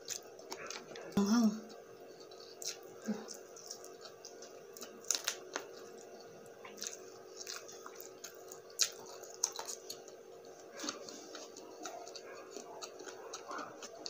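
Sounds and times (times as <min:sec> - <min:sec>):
steady low hum: 0:00.0 - 0:14.0
wet chewing and smacks: 0:00.0 - 0:14.0.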